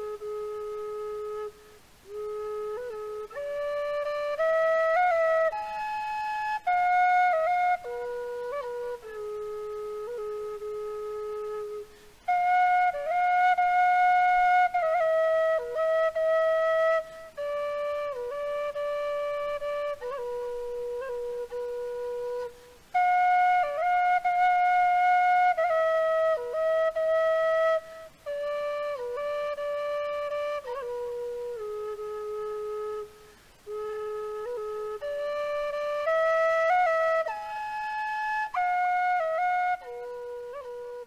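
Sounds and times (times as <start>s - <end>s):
solo flute melody: 0.0s - 41.0s.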